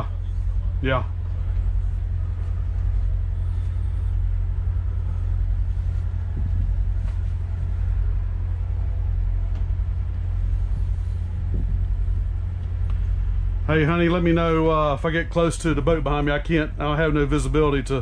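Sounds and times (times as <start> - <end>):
boat diesel engines idling: 0.0 - 18.0.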